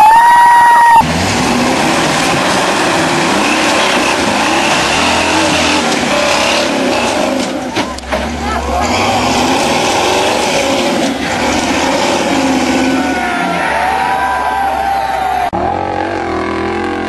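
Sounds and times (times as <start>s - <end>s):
buggy engine revving: 0.8s - 17.0s.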